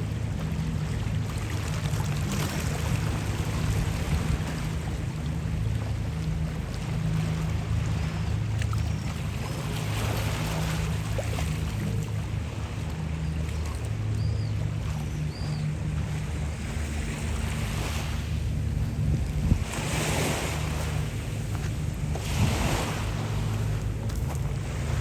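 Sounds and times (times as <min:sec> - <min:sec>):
boat engine humming: 0:00.0 - 0:25.0
wind and water hiss: 0:00.0 - 0:25.0.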